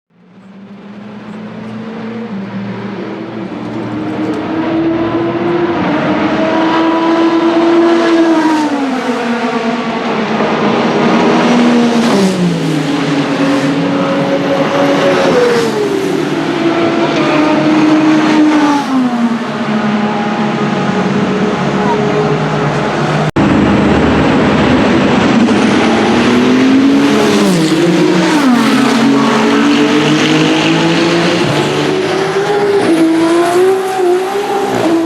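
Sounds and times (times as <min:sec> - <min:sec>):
race car engines running: 0:00.1 - 0:35.0.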